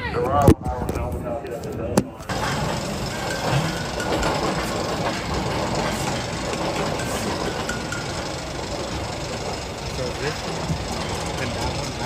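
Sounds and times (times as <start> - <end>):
roller coaster chain lift running: 2.3 - 12.0.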